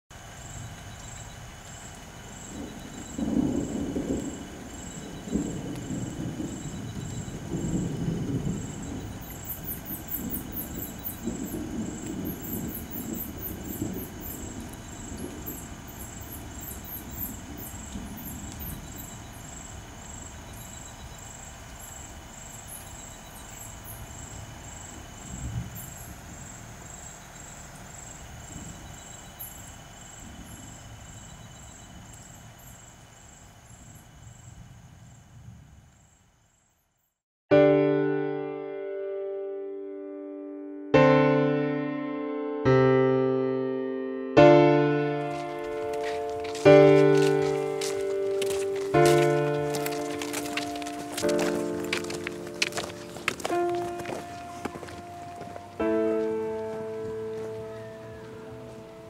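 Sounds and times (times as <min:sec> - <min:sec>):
low uneven rumbling: 0:00.2 - 0:35.9, 0:45.0 - 0:59.0.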